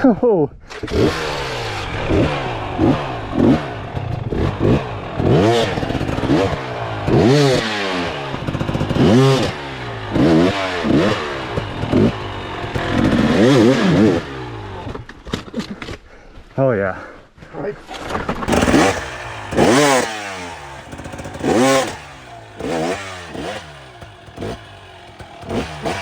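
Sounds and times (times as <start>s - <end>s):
dirt bike engine revving: 0.7s - 15.1s, 18.4s - 26.0s.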